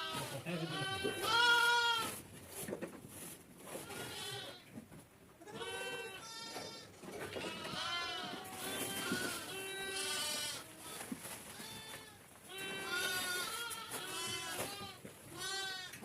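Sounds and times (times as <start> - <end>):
sheep and goats bleating: 0.0 - 2.2, 3.8 - 4.7, 5.4 - 16.0.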